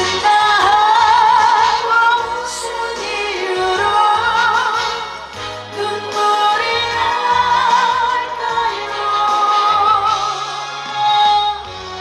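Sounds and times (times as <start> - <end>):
backing band: 0.0 - 12.0
bass line: 0.0 - 12.0
person singing with vibrato: 0.0 - 12.0.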